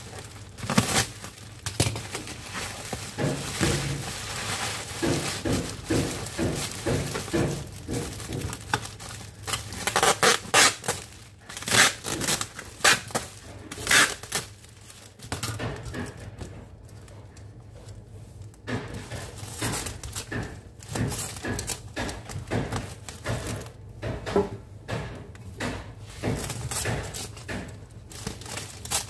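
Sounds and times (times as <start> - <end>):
cellophane wrap crinkling: 0.0 - 23.8, 26.2 - 29.0.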